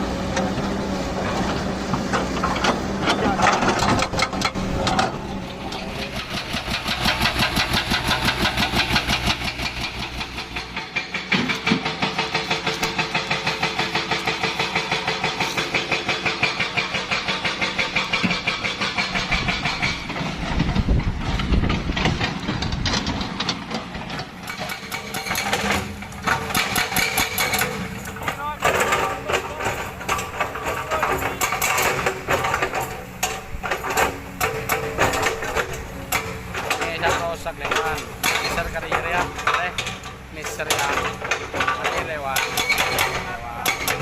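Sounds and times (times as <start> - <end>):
excavator engine running: 0.0 - 44.0
hydraulic breaker hammering: 1.4 - 44.0.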